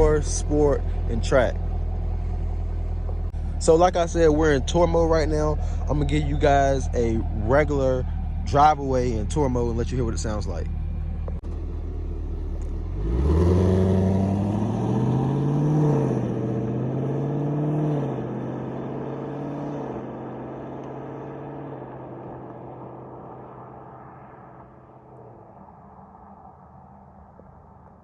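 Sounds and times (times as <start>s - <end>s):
car engine idling and accelerating: 0.0s - 28.0s.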